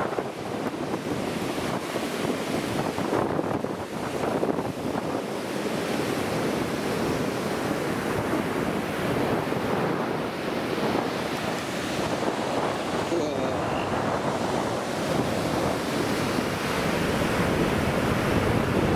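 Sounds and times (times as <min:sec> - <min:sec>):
ocean surf on a beach: 0:00.0 - 0:18.9
wind buffeting microphone: 0:00.0 - 0:18.9.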